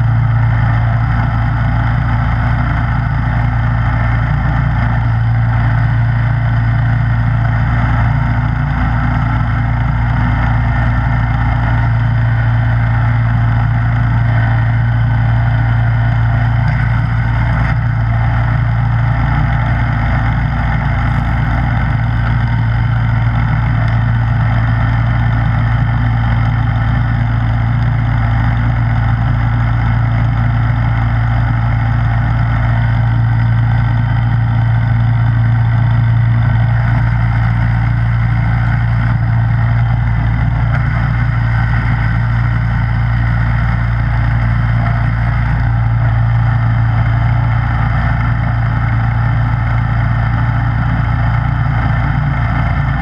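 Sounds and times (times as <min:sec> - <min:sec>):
snowblower engine droning: 0:00.0 - 0:53.0.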